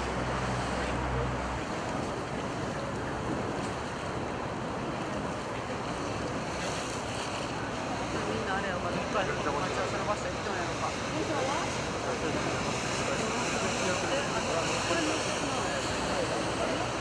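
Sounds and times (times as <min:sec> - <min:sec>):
low engine hum: 0:00.0 - 0:17.0
water rushing: 0:00.0 - 0:17.0.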